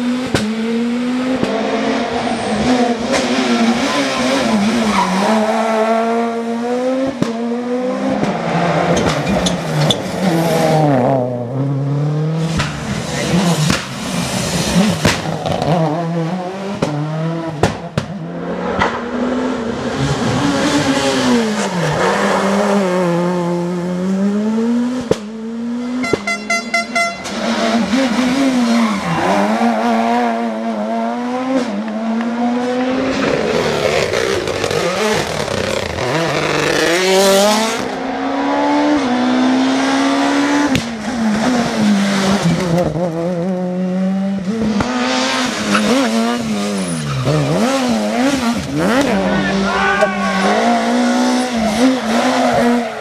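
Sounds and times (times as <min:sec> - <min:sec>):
rally car engine revving: 0:00.0 - 0:26.4, 0:27.2 - 0:53.0.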